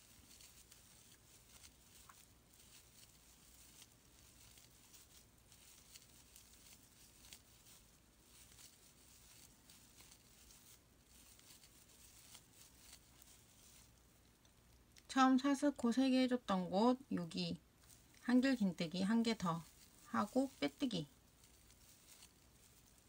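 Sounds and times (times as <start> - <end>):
crochet hook rustling and ticking: 0.0 - 23.0.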